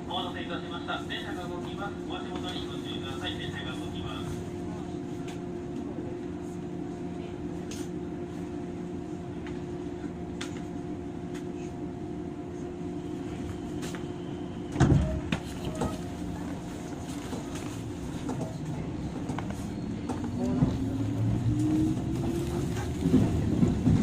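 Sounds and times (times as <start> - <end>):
train electrical hum: 0.0 - 24.0.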